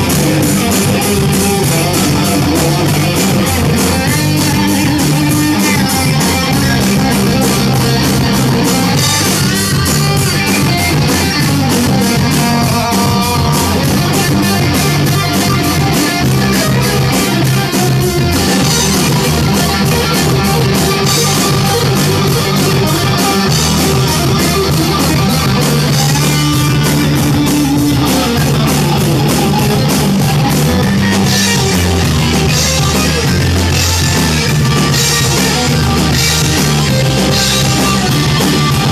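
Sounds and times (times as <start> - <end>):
loud rock music: 0.0 - 38.9.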